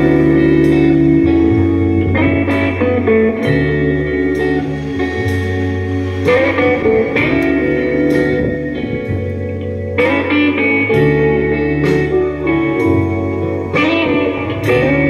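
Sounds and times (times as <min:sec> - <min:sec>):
held low bass notes: 0:00.0 - 0:15.0
plucked guitar: 0:00.0 - 0:15.0.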